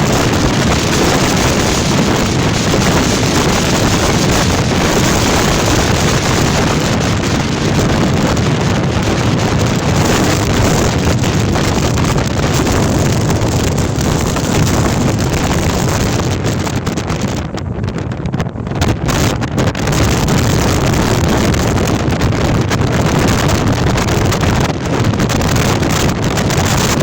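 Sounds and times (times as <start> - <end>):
storm wind roaring: 0.0 - 27.0.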